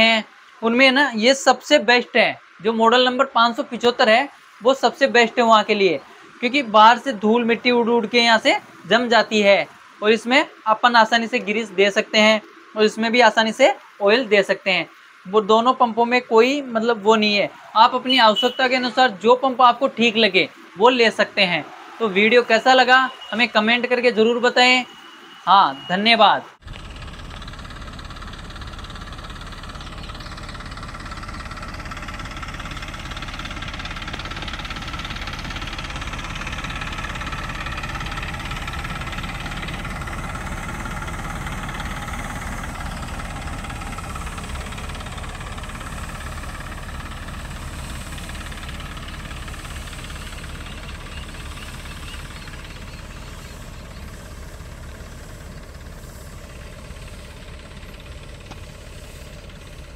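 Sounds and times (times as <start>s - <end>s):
tractor engine running: 0.0s - 25.9s, 26.5s - 59.9s.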